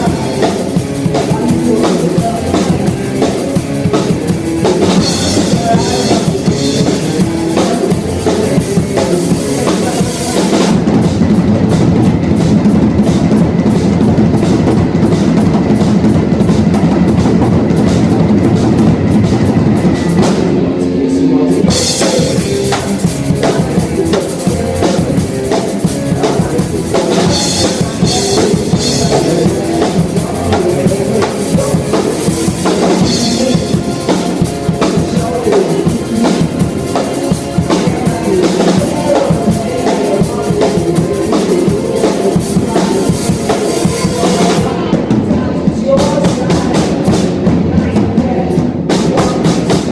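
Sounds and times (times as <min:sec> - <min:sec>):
drum kit: 0:00.0 - 0:49.9
live rock band playing: 0:00.0 - 0:49.9.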